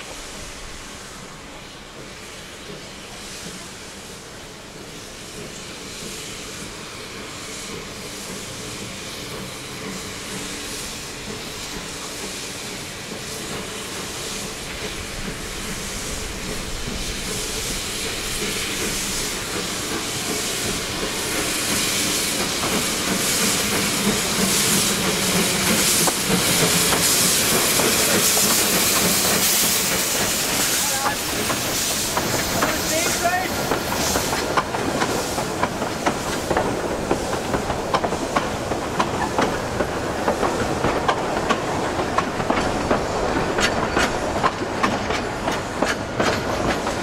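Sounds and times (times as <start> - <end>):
steam hissing: 0.0 - 47.0
steam locomotive pulling coaches: 0.0 - 47.0.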